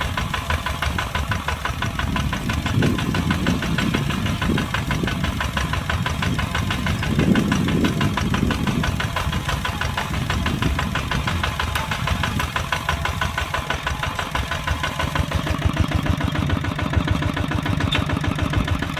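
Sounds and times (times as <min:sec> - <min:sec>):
tractor diesel engine clatter: 0:00.0 - 0:18.9.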